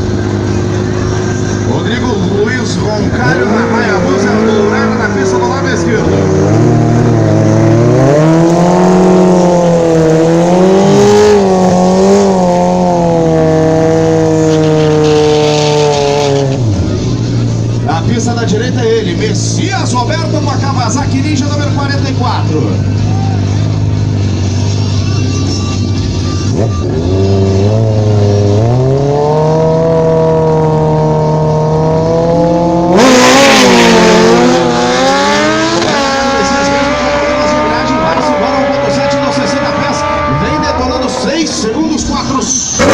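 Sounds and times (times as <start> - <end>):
motorcycle engines revving high: 0.0 - 42.9.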